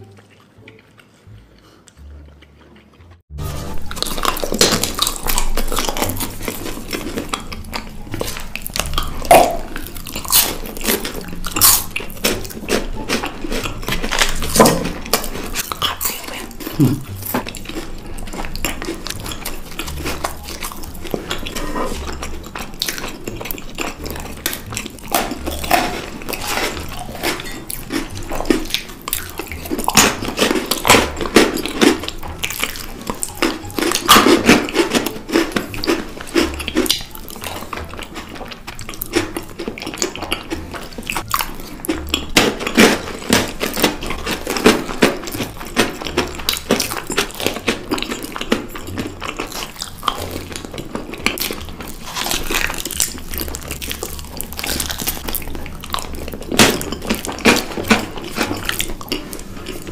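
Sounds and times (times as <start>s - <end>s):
crisp biting and chewing: 0.0s - 59.9s.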